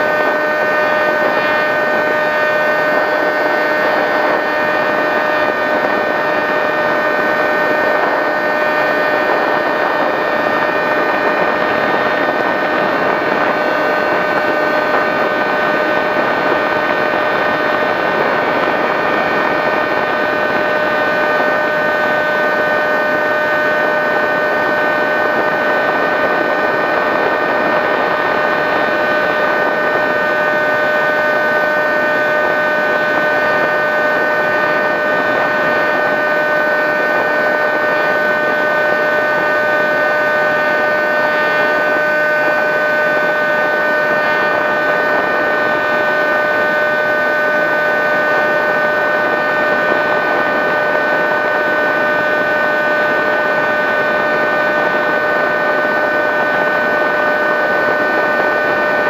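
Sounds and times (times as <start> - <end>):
electric motor and propeller whine: 0.0 - 59.0
rushing air: 0.0 - 59.0.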